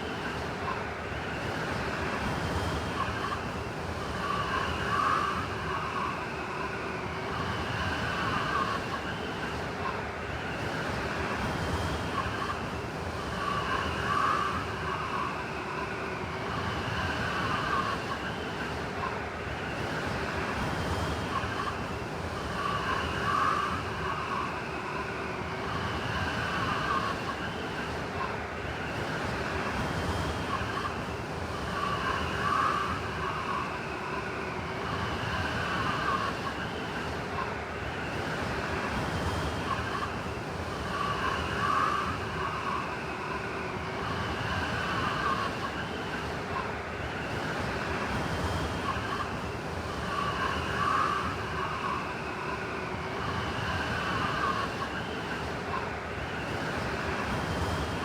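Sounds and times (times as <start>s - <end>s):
blizzard wind whistling: 0.0s - 58.0s.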